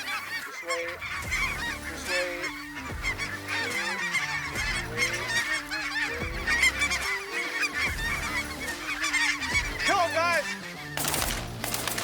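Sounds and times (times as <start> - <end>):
flock of geese honking: 0.0 - 12.0.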